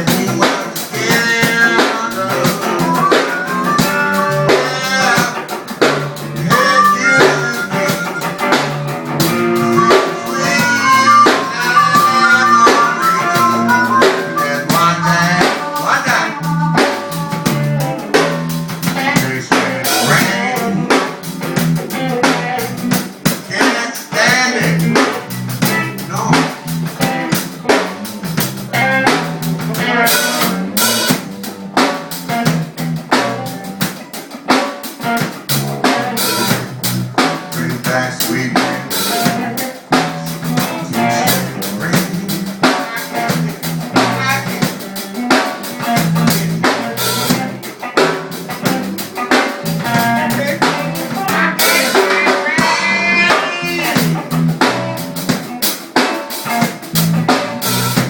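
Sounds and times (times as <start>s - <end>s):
bass line: 0.0s - 34.0s, 35.0s - 55.5s, 56.6s - 58.0s
drum kit beat: 0.0s - 58.0s
electric guitar: 0.0s - 58.0s.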